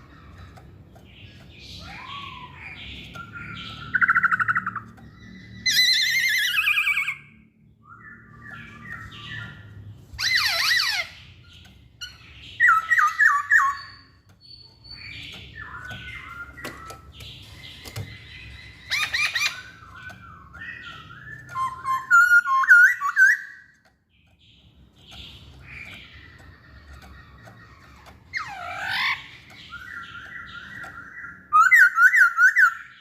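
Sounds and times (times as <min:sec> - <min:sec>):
bird singing: 0:00.0 - 0:33.0.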